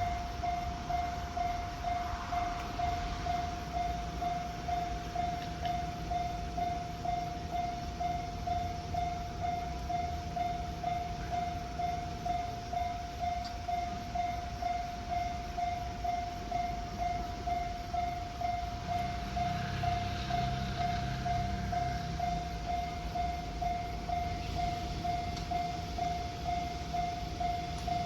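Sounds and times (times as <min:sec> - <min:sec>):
level-crossing warning bell: 0:00.0 - 0:28.0.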